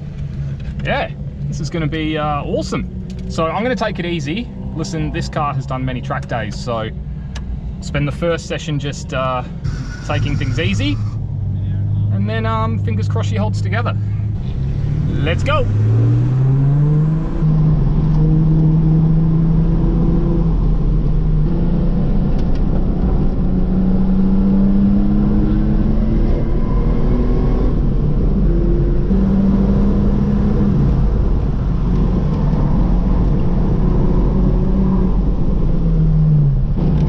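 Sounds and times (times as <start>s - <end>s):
car engine accelerating: 0.0s - 37.0s
road and tyre noise: 0.0s - 37.0s.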